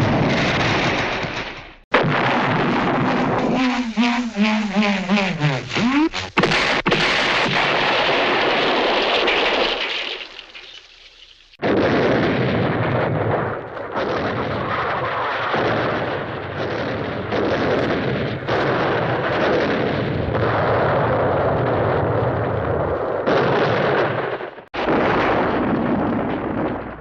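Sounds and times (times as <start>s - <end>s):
explosions and gunfire: 0.0s - 27.0s.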